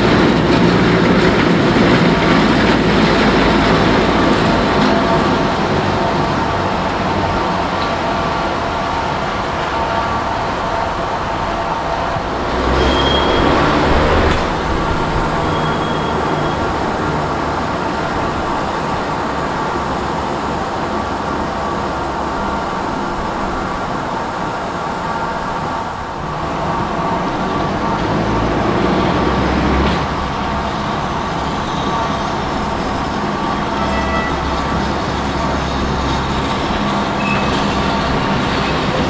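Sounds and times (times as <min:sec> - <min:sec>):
vintage rail vehicle running: 0:00.0 - 0:39.0.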